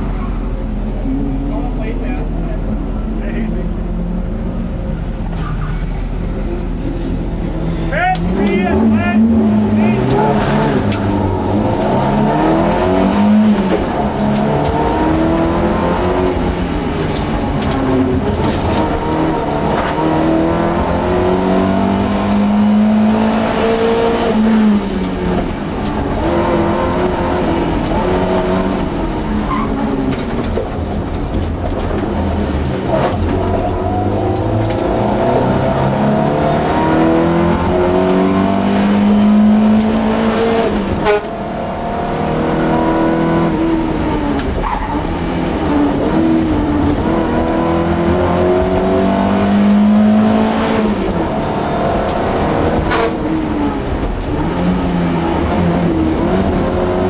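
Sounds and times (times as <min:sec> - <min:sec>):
car engine revving inside cabin: 0:07.3 - 0:57.0.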